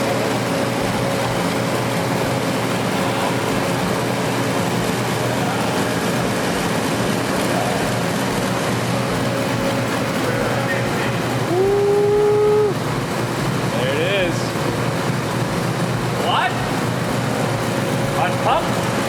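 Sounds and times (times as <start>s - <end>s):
car engine humming steadily: 0.0s - 19.0s.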